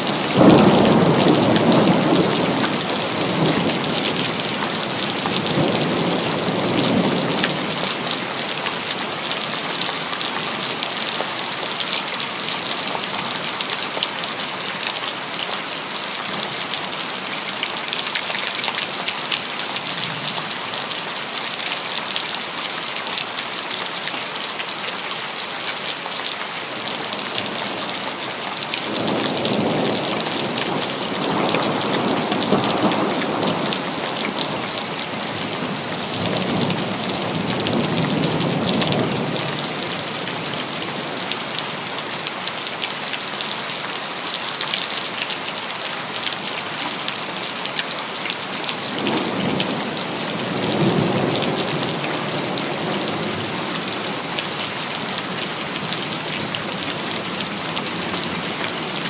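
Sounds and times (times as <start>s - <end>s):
steady city rain: 0.0s - 59.0s.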